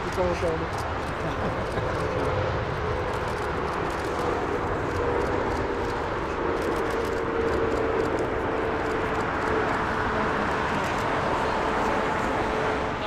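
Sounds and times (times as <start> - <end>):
jet engine rush: 0.0 - 13.0.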